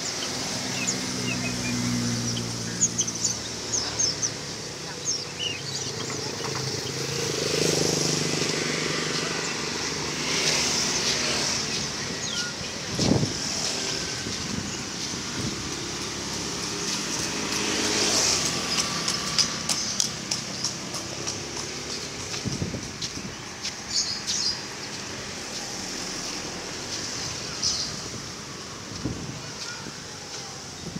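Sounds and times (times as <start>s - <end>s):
caged songbirds chirping: 0.0s - 30.9s
small motorbike engines running: 0.0s - 30.9s.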